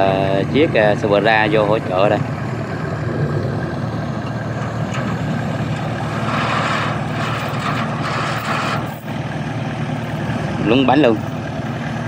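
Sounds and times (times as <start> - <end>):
diesel tractor engines running: 0.0 - 12.0.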